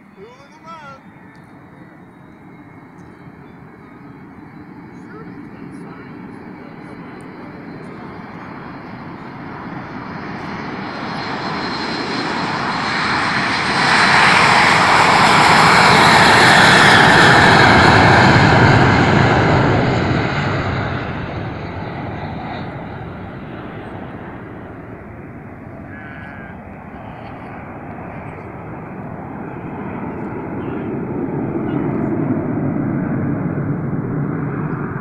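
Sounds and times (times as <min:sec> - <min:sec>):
jet engines at takeoff thrust: 0:00.0 - 0:35.0.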